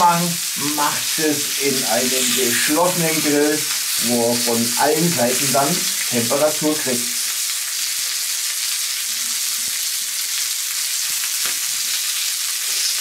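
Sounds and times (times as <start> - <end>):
meat sizzling on a griddle: 0.0 - 13.0.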